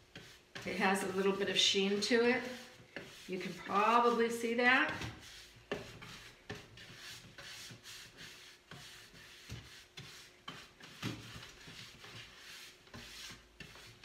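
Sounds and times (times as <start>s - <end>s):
brush bristles rubbing on surface: 0.0s - 14.0s.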